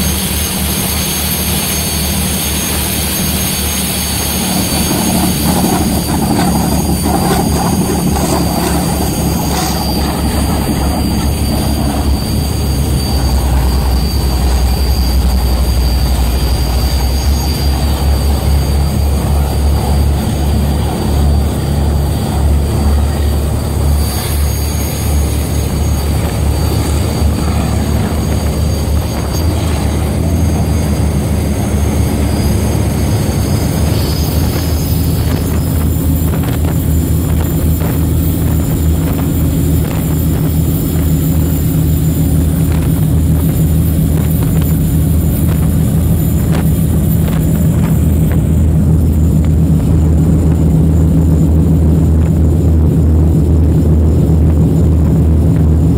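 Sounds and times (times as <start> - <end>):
boat engines droning: 0.0 - 55.9
water rushing along hull: 0.0 - 55.9
wind: 0.0 - 55.9.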